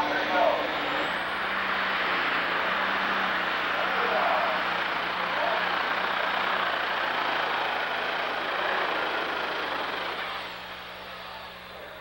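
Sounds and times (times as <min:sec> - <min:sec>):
diesel tractor engine roaring: 0:00.0 - 0:12.0.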